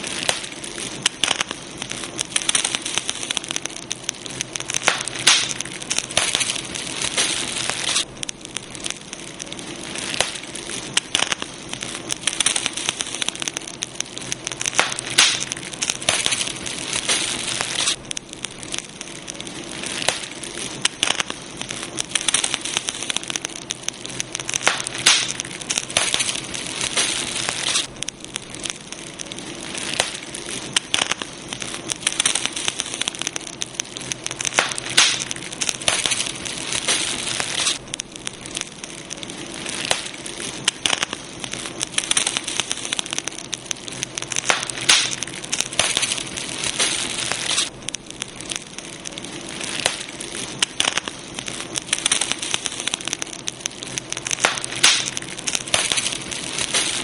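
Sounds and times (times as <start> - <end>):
campfire crackling and popping: 0.0 - 57.0
hiss of flames: 0.0 - 57.0.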